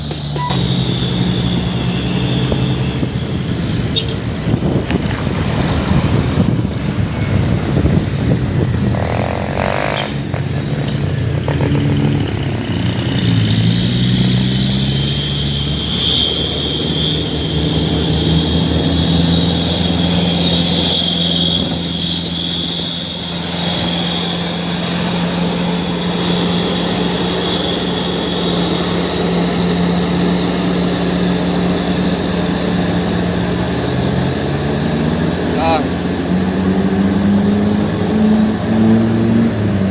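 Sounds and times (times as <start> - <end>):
high steady whine: 0.0 - 39.9
truck engine running: 0.0 - 39.9.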